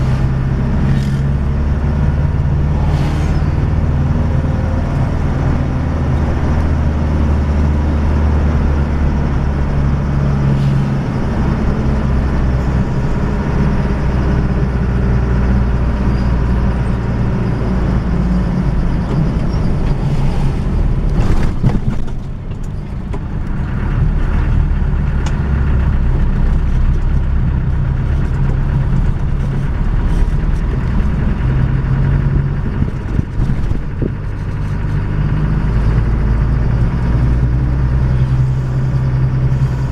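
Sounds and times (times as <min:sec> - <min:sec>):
road noise: 0:00.0 - 0:39.9
vehicle engine drone: 0:00.0 - 0:39.9.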